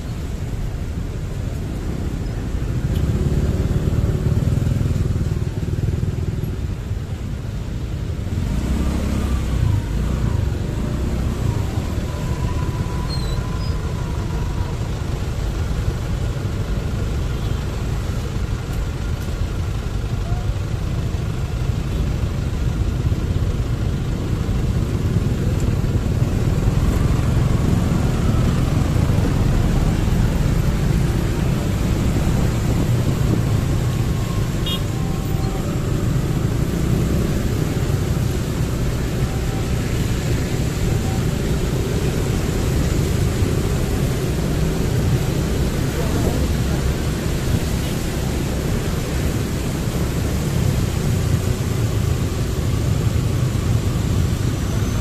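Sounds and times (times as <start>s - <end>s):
motorbike engine rumble: 0.0s - 55.0s
road noise: 0.0s - 55.0s.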